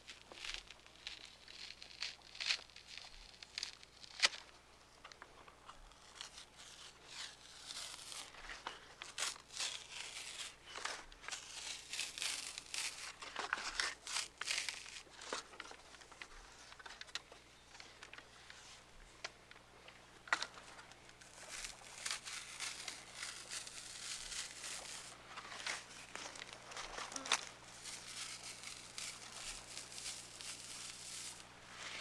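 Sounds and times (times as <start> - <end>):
knife shaving wooden strips: 0.0 - 4.5, 5.5 - 17.2, 20.4 - 32.0.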